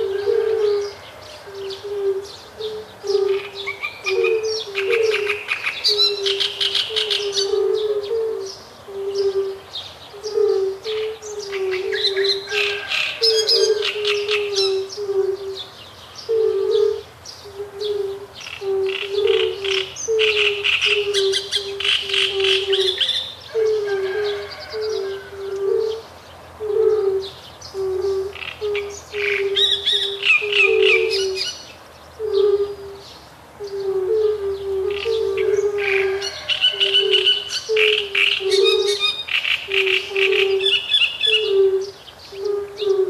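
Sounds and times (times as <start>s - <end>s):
toads calling: 0.0s - 43.0s.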